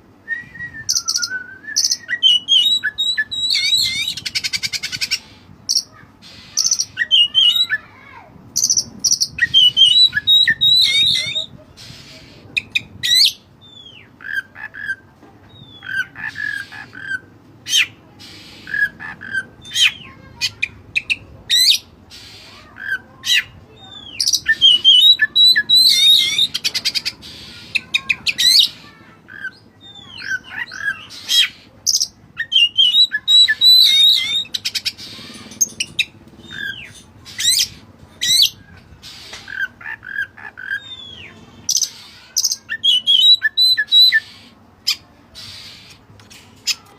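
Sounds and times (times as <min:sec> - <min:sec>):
bird singing varied song: 0:00.3 - 0:07.9, 0:08.6 - 0:46.0.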